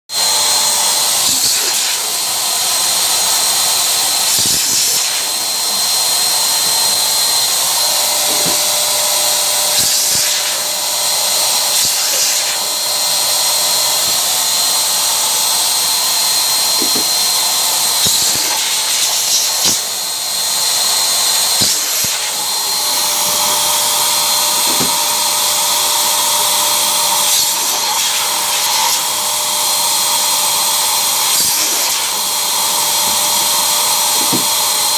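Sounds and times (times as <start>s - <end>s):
electric balloon pump whining: 0.1s - 34.9s.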